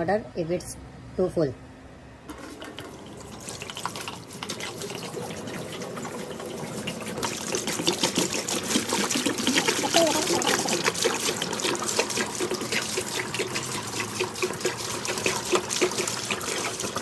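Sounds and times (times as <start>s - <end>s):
water pouring into metal basket: 2.3s - 17.0s.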